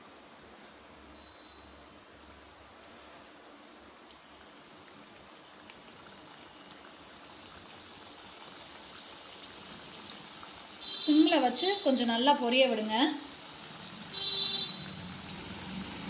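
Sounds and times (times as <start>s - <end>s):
dough sizzling in hot oil: 0.3s - 16.0s.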